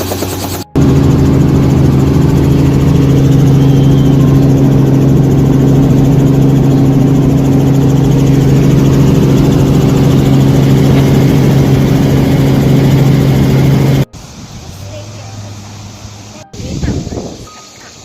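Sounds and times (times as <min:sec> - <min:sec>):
engine humming steadily: 0:00.0 - 0:17.4.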